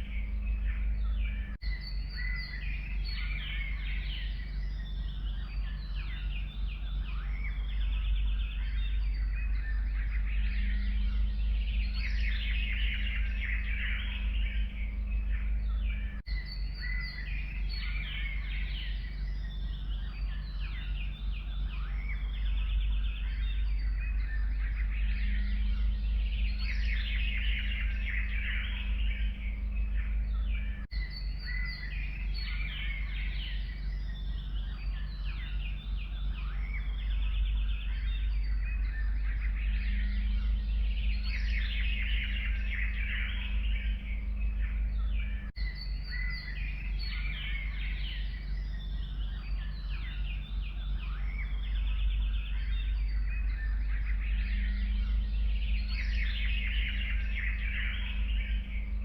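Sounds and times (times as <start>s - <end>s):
birds chirping and singing: 0.0s - 59.0s
steady low rumble: 0.0s - 59.0s.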